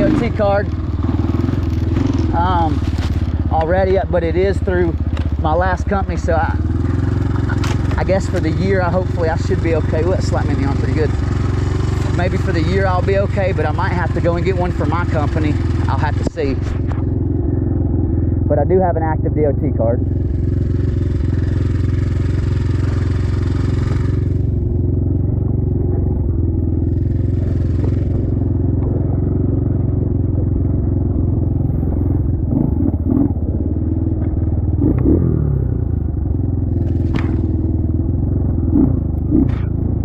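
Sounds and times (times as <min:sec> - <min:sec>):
dirt bike engine running: 0:00.0 - 0:40.0.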